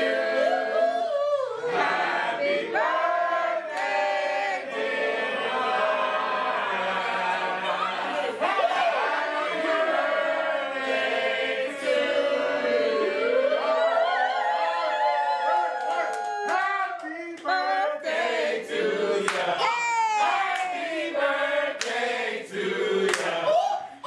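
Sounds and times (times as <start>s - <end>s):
group of people singing: 0.0s - 15.4s, 16.3s - 24.0s.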